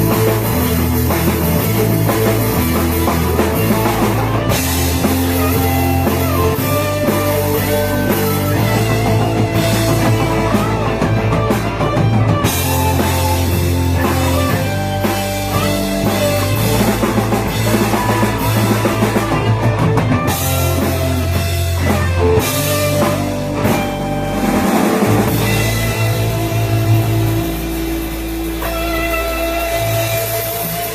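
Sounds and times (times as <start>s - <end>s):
rock band playing: 0.0s - 30.9s
steady bass line: 0.0s - 30.9s.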